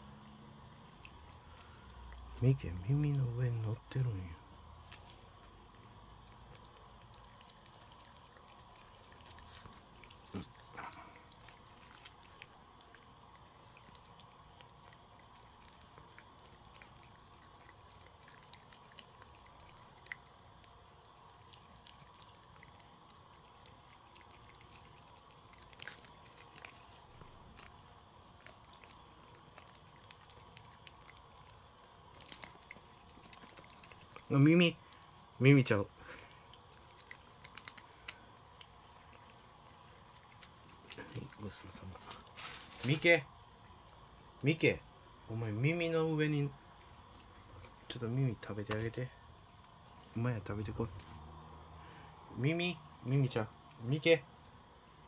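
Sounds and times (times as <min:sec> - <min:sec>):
cat licking and smacking: 0:00.0 - 0:51.6.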